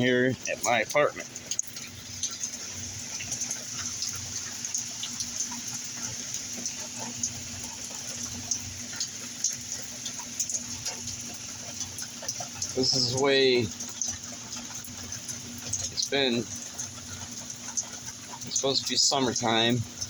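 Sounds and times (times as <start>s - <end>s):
steady rain falling: 0.0s - 20.0s
water drips splashing: 0.0s - 20.0s.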